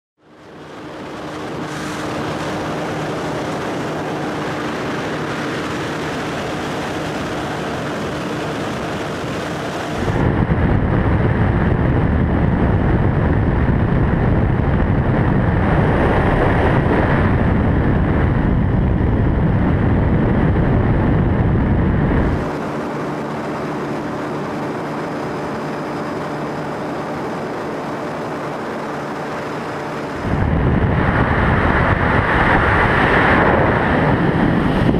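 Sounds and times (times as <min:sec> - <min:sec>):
engine humming in flight: 0:00.2 - 0:34.9
wind buffeting microphone: 0:00.4 - 0:34.9.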